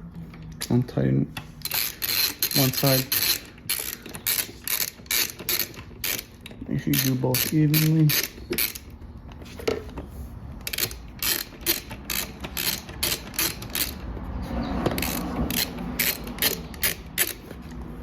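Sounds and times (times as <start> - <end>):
ratcheting wrench clicking: 1.6 - 9.0, 10.6 - 17.8.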